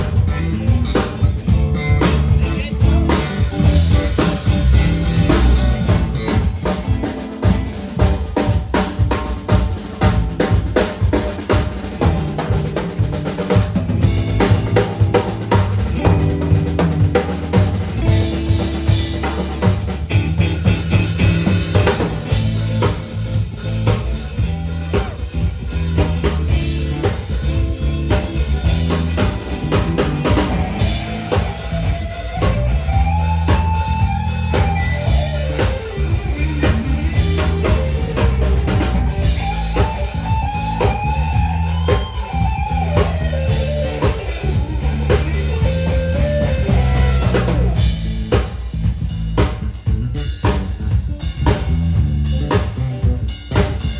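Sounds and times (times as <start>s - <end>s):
bass line: 0.0s - 53.9s
drum kit beat: 0.0s - 53.9s
guitar lead with bent notes: 0.0s - 53.9s.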